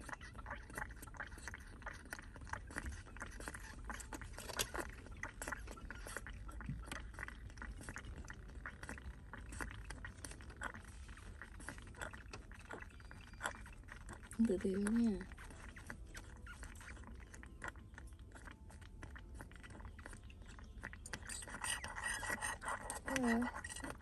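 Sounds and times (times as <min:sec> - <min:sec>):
wet clicks from bottle teat sucking: 0:00.0 - 0:24.0.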